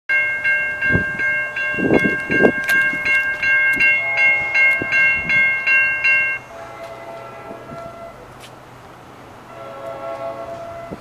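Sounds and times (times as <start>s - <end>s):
railroad crossing bell ringing: 0.1s - 8.3s, 9.3s - 11.0s.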